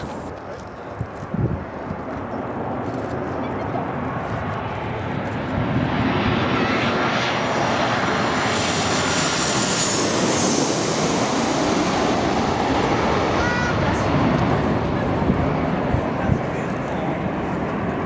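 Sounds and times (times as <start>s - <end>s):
airliner passing low overhead: 0.0s - 18.0s.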